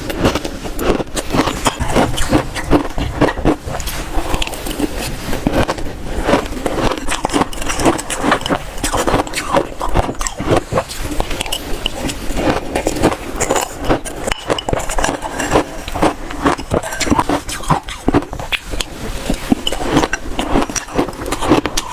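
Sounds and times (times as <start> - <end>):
ice crunching being bitten: 0.0 - 21.9.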